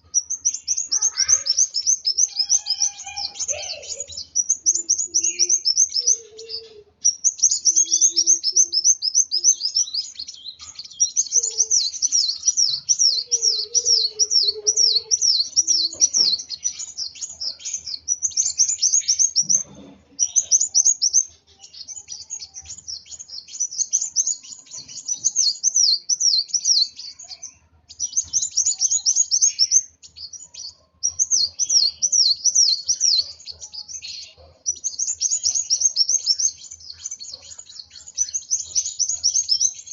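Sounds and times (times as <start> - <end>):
sunbird singing high chirps: 0.0 - 39.9.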